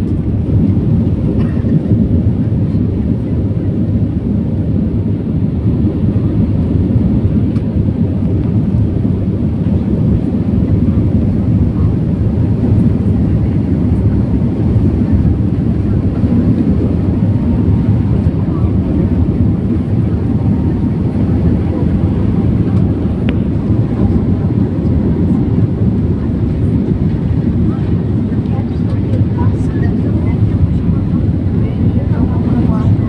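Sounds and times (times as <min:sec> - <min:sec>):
jet engines low rumble: 0:00.0 - 0:33.0.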